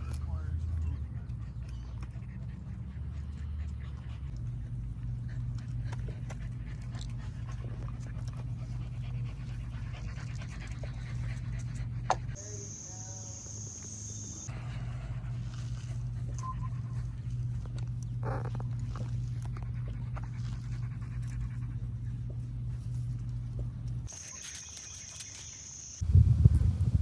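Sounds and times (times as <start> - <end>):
dog panting: 0.0 - 12.4, 14.5 - 23.8.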